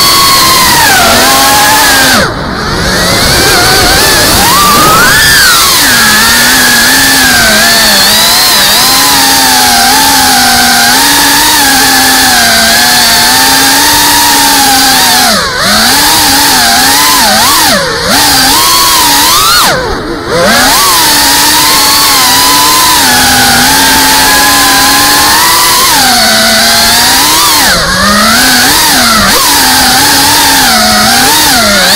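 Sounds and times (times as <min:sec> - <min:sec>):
quadcopter motors whining: 0:00.0 - 0:31.9.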